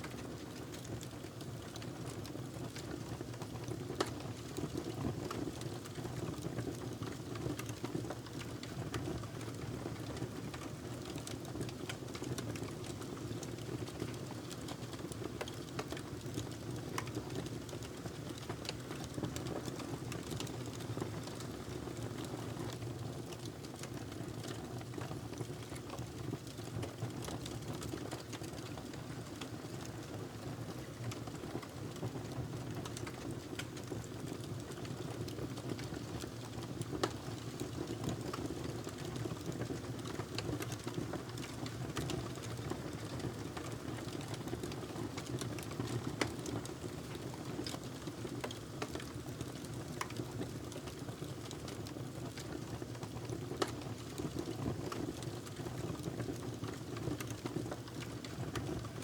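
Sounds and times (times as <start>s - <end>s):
wood fire crackling and popping: 5.8s - 59.0s.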